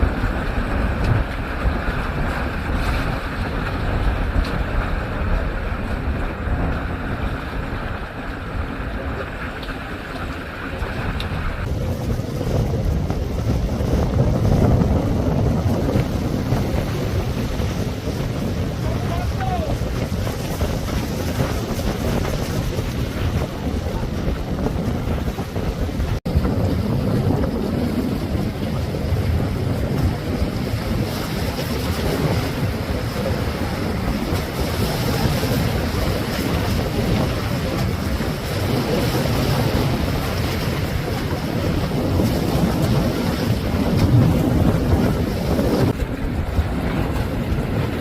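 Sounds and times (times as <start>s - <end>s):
sea waves washing: 0.0s - 48.0s
wind buffeting microphone: 0.0s - 48.0s.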